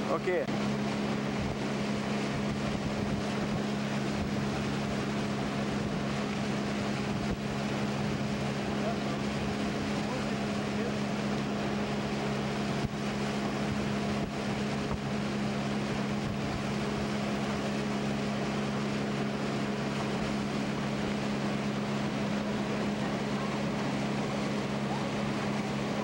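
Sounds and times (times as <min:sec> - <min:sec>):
boat motor running: 0:00.0 - 0:26.0
wind and water rushing: 0:00.0 - 0:26.0.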